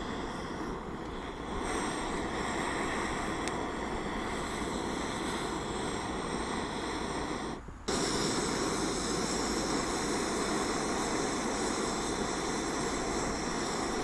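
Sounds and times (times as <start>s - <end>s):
electric air blower whining: 0.0s - 14.0s.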